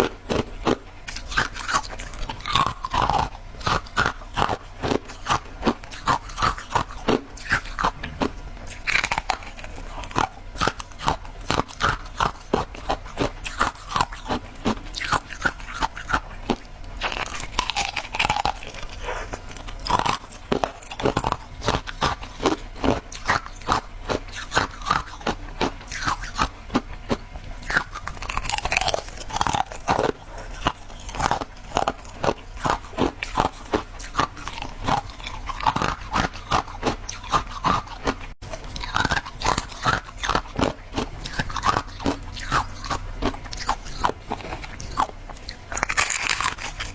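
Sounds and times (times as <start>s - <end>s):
shaved ice being chewed: 0.0s - 46.9s.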